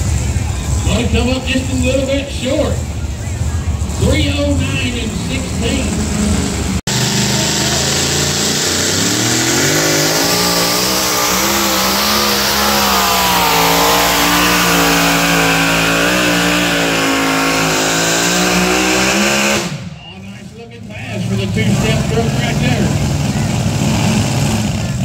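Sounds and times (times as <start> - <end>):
truck engine at high revs: 0.0 - 25.0.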